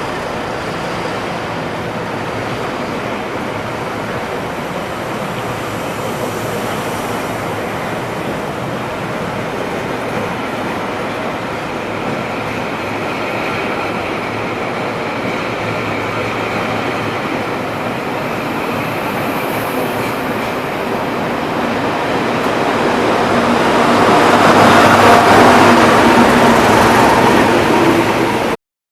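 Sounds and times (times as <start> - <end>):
diesel locomotive engine: 0.0 - 28.6.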